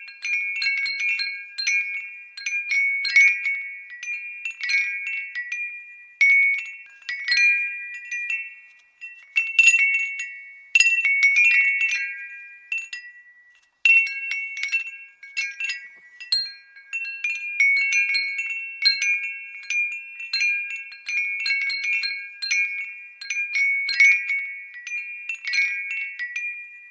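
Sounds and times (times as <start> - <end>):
glass wind bell tinkling: 0.0 - 26.9.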